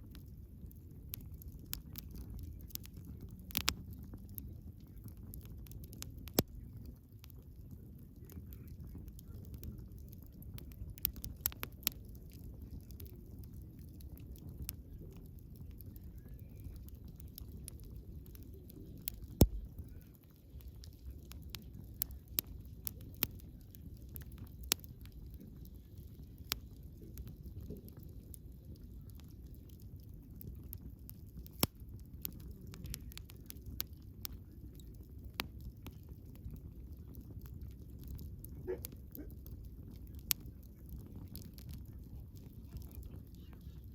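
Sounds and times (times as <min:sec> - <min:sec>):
campfire crackles and pops: 0:00.0 - 0:43.9
low rumble of flames: 0:00.0 - 0:43.9.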